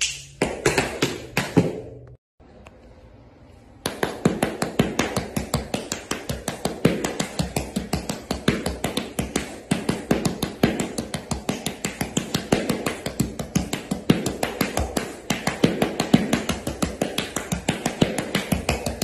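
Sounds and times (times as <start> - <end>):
tap shoes on hard floor: 0.2 - 2.2, 3.8 - 19.0.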